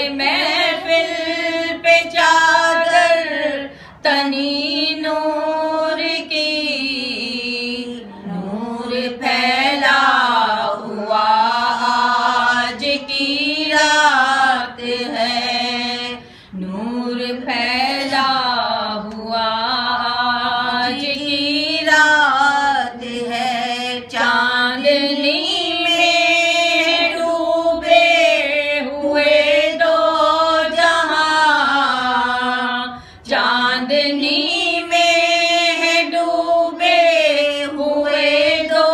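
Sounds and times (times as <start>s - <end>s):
women chanting unaccompanied: 0.0s - 38.9s.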